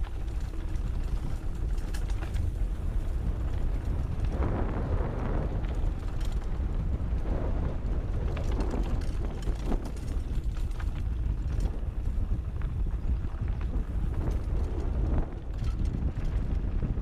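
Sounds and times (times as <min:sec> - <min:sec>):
bike rattling and clicking: 0:00.0 - 0:17.0
wind buffeting microphone: 0:00.0 - 0:17.0.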